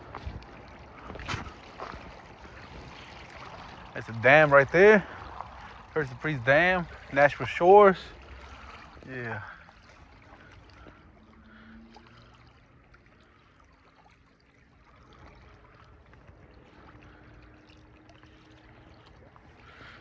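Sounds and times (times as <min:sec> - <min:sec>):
distant motorboat engine droning: 0:00.0 - 0:20.0
small waves lapping on rocks: 0:00.0 - 0:20.0.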